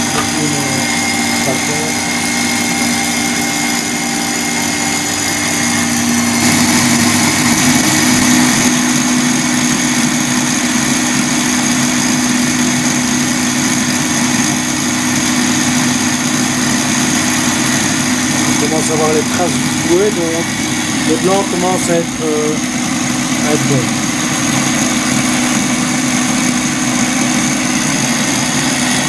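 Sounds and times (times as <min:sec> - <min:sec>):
electric stand mixer whisking: 0:00.0 - 0:29.0.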